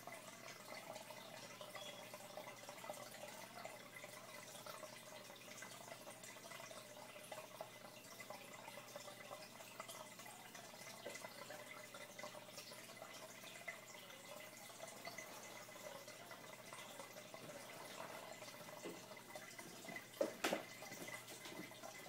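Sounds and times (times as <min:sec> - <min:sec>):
aquarium air bubbles: 0:00.0 - 0:22.0.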